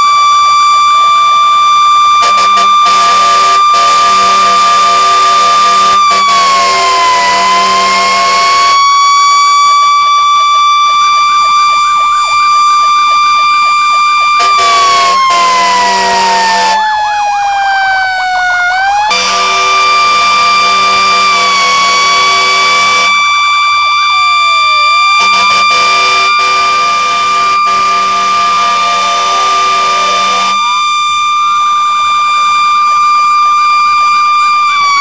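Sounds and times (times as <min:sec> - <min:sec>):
fire engine siren: 0:00.0 - 0:35.0
wavering siren tone: 0:00.0 - 0:35.0.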